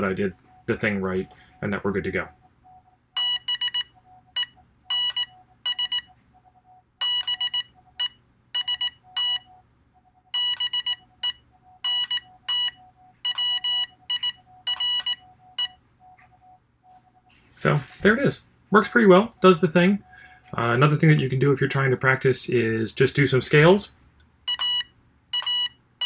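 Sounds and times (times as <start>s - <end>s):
morse code beeps: 0.0s - 21.4s, 24.5s - 25.7s.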